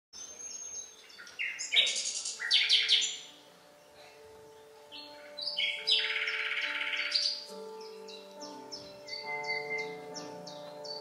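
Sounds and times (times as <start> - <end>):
birds chirping and trilling: 0.2 - 11.0.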